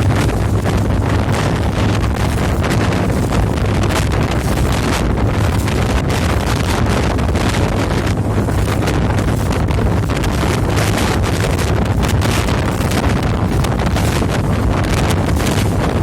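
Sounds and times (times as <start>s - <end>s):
boat engine droning: 0.0s - 16.0s
wind buffeting microphone: 0.0s - 16.0s.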